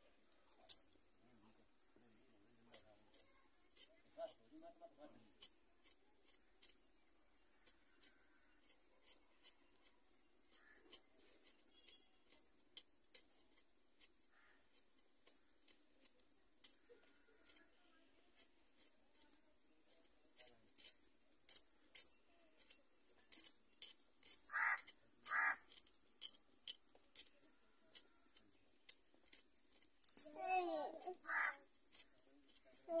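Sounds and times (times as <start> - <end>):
knife clicking and scraping vegetables: 2.6 - 33.0.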